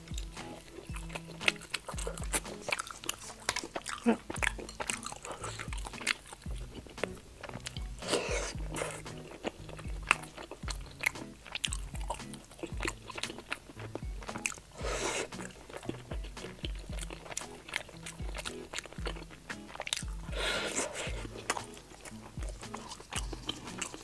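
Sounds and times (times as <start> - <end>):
chewing with wet smacks: 0.0 - 24.0.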